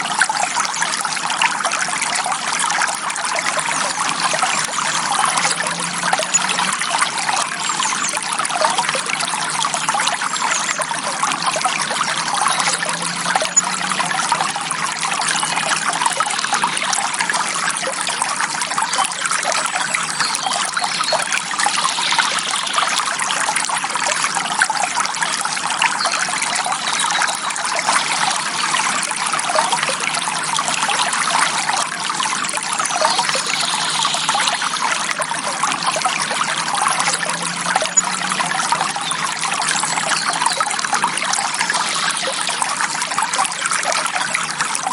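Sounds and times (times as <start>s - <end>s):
stream trickling: 0.0s - 44.9s.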